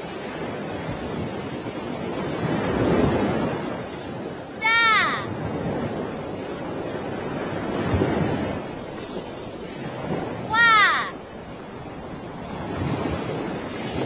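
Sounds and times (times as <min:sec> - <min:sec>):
ocean waves: 0:00.0 - 0:14.0.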